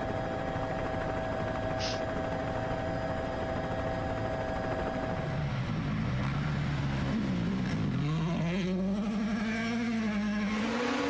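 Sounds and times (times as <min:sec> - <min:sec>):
steady mechanical drone: 0:00.0 - 0:10.7.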